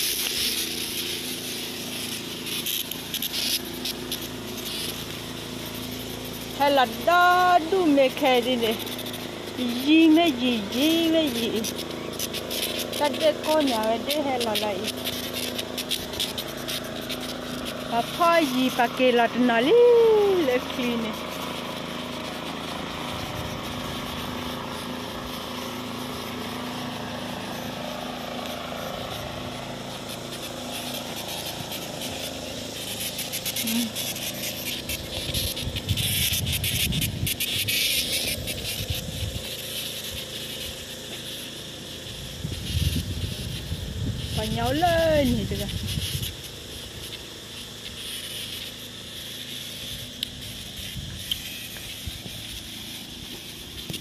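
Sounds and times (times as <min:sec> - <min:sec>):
engine drone: 0:00.0 - 0:54.0
steady high hiss: 0:00.0 - 0:54.0.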